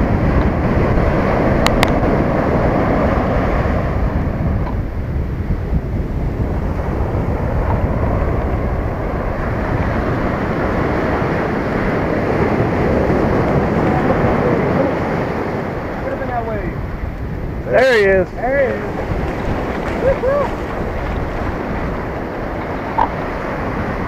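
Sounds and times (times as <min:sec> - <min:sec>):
ocean surf breaking: 0:00.0 - 0:24.0
wind rumbling on microphone: 0:00.0 - 0:24.0.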